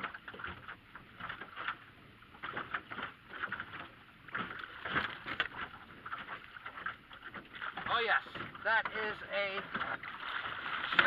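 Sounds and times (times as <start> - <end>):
water splashing against boat hull: 0.0 - 11.0.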